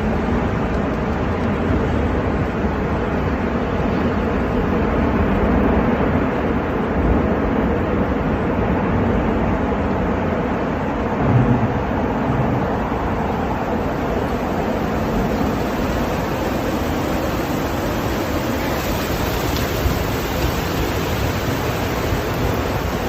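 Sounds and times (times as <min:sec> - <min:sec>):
low wind buffet: 0:00.0 - 0:23.0
strong storm wind roaring: 0:00.0 - 0:23.0.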